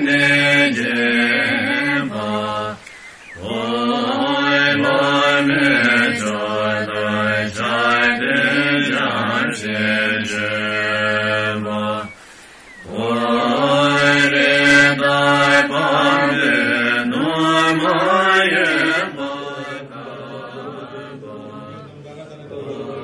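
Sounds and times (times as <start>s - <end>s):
low-voiced mantra chanting: 0.0s - 2.8s, 3.4s - 12.2s, 12.8s - 23.0s.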